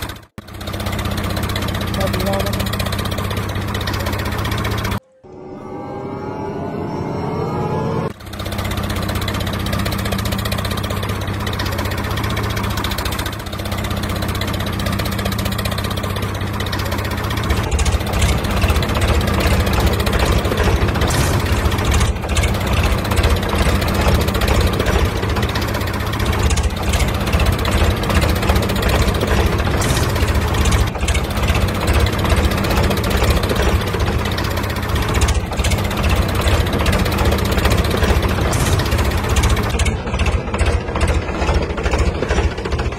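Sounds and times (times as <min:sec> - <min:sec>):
tractor engine chugging: 0:00.0 - 0:05.0, 0:08.0 - 0:42.9.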